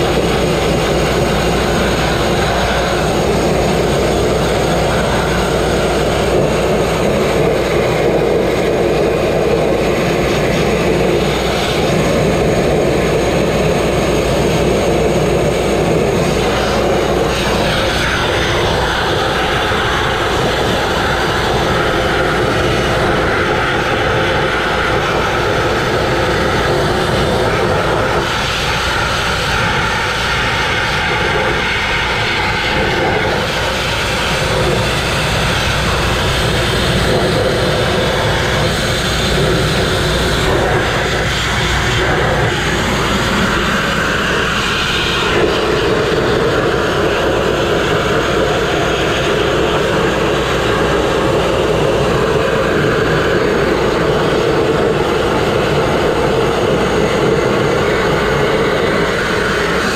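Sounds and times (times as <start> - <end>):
grit blasting roar and hiss: 0.0 - 59.9.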